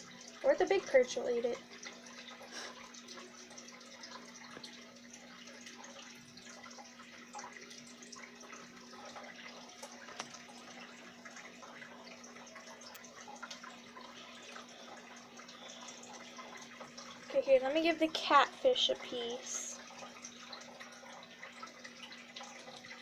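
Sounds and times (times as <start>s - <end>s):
water drips and splashes: 0.0s - 23.0s
water trickling and bubbling: 0.0s - 23.0s.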